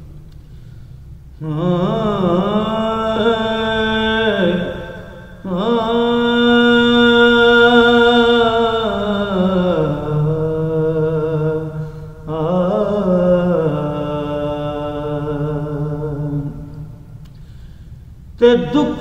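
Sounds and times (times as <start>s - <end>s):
man singing: 1.4s - 16.7s, 18.4s - 19.0s.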